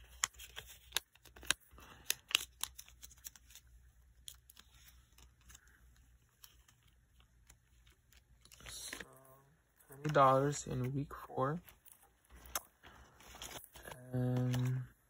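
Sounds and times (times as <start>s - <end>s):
paper banknote crinkling: 0.0s - 9.0s, 11.6s - 14.8s.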